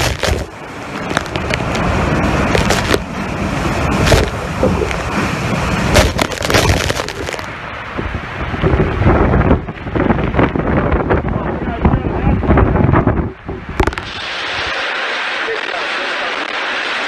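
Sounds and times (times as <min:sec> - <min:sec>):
wind buffeting microphone: 0:00.0 - 0:14.8
driving rain: 0:00.0 - 0:17.0
hurricane wind: 0:00.0 - 0:17.0.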